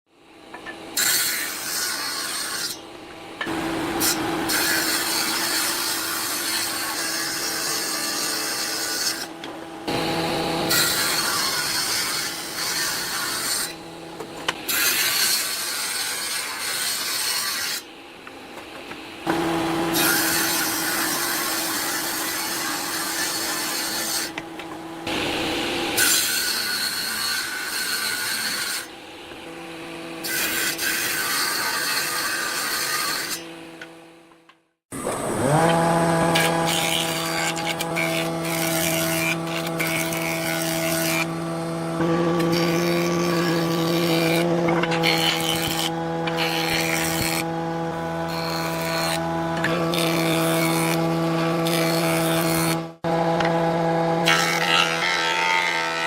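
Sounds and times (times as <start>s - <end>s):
power tool grinding wood: 3.4s - 17.8s, 19.2s - 34.0s, 34.9s - 56.0s.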